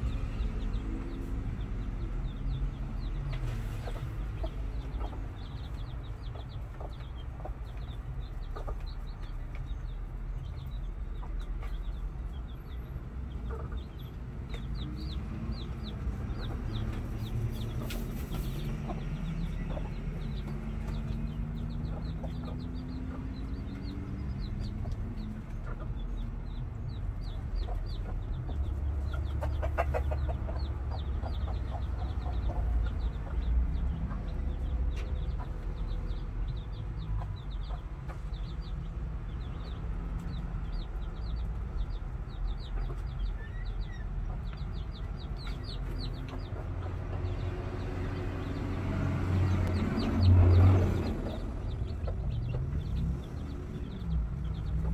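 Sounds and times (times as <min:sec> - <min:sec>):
chicks peeping: 0:00.0 - 0:54.9
steady low rumble: 0:00.0 - 0:54.9
hens clucking: 0:02.0 - 0:54.9.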